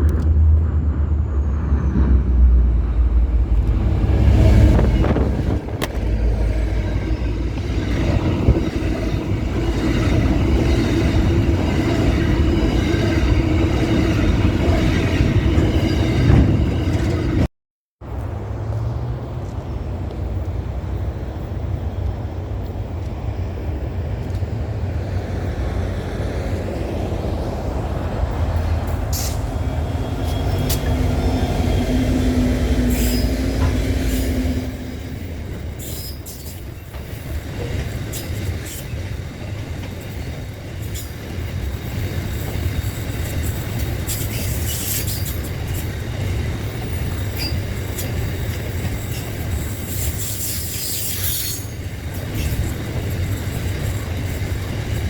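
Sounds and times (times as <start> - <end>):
rail clicks: 0.0 - 17.5, 25.3 - 55.0
train rumbling on rails: 0.0 - 55.0.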